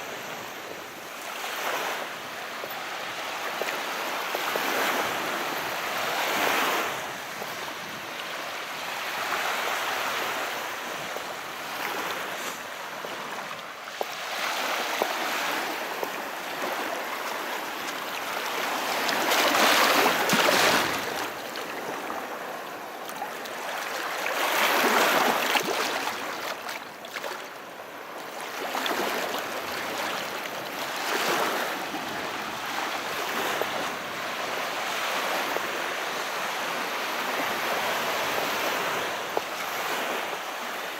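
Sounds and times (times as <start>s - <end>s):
waves washing ashore: 0.0s - 40.9s.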